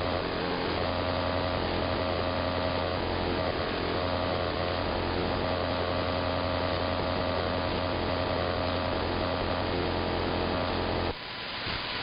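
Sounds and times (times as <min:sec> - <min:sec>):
low hum: 0:00.0 - 0:11.2
radio interference buzzing: 0:00.0 - 0:12.0.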